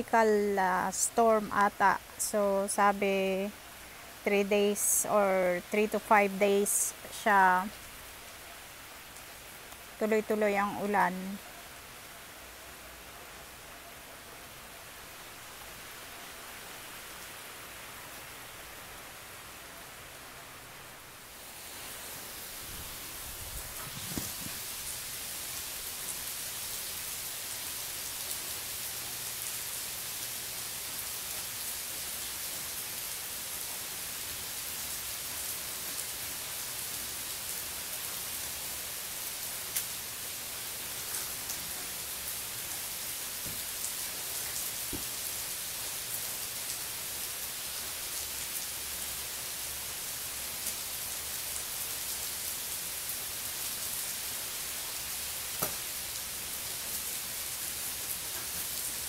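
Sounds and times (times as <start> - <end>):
heavy rain on pool and concrete: 0.0 - 59.0.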